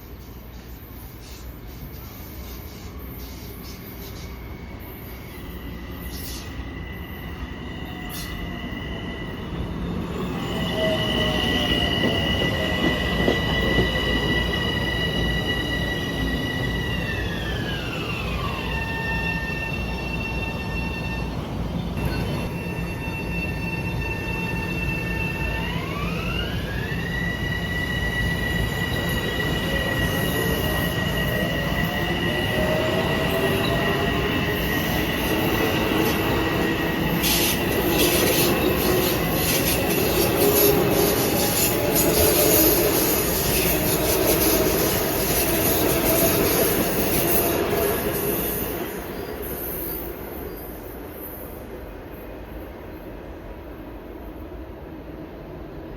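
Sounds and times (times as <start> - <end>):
train electric drive whine: 0.0 - 52.6
train rumble and wheel noise: 0.0 - 55.9.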